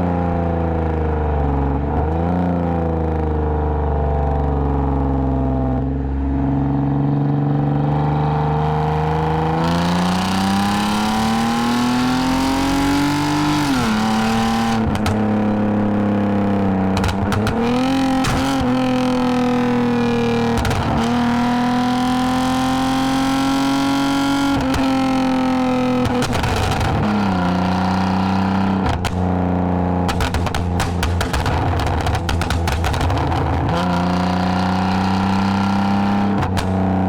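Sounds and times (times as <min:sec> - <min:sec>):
car engine and exhaust: 0:00.0 - 0:37.0.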